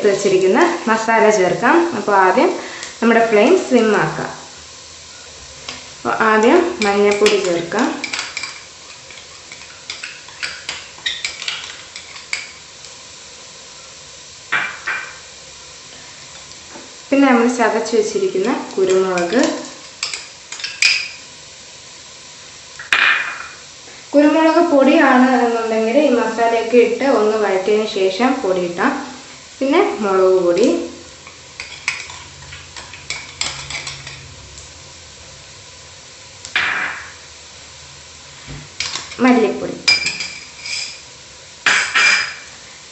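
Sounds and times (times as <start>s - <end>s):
shallots sizzling in a pan: 0.0s - 42.9s.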